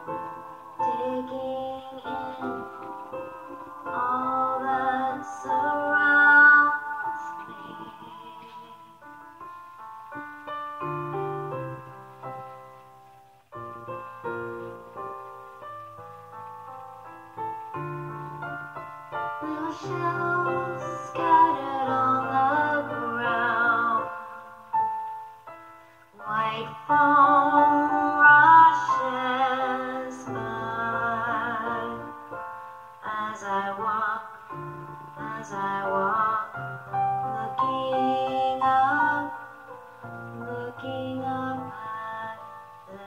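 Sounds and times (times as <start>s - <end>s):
wordless singing with vibrato: 0.0s - 9.8s, 17.8s - 43.0s
piano accompaniment: 0.0s - 43.0s.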